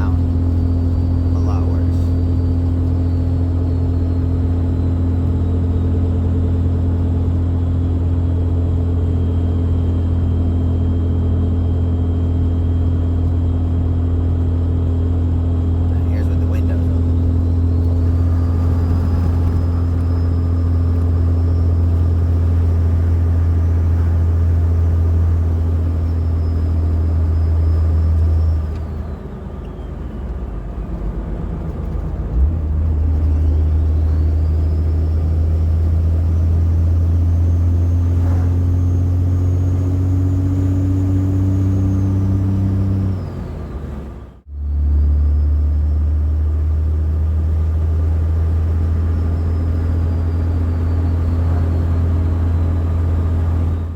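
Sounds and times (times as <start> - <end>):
tyre road noise drone: 0.0 - 53.9.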